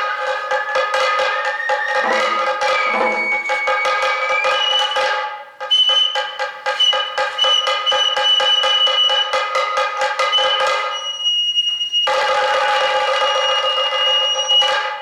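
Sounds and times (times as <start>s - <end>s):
bamboo flute melody: 0.0s - 15.0s
fast drum strokes: 0.0s - 15.0s.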